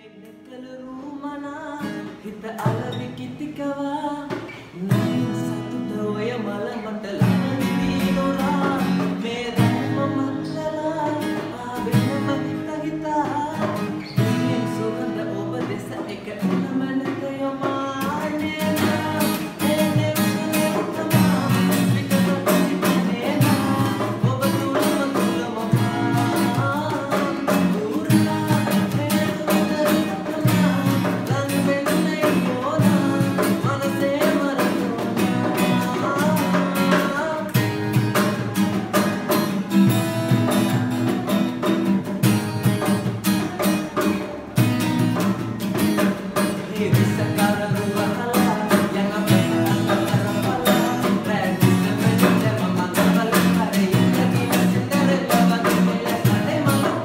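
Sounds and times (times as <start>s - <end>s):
acoustic guitars strumming: 0.0s - 57.0s
man singing pop song: 0.0s - 57.0s.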